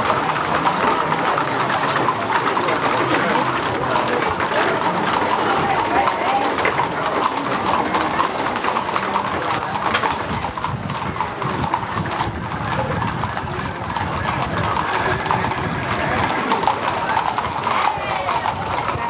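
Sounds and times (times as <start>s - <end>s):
horse hooves on asphalt: 0.0s - 19.0s.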